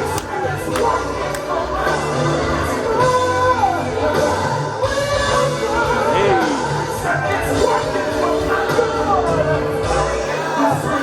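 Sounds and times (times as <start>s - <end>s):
person singing: 0.0s - 11.0s.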